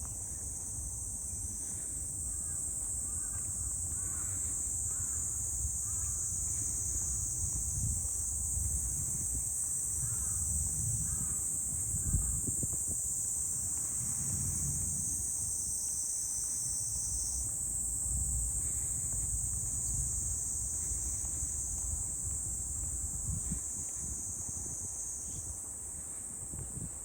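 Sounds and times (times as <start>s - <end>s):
cicadas buzzing: 0.3s - 25.6s.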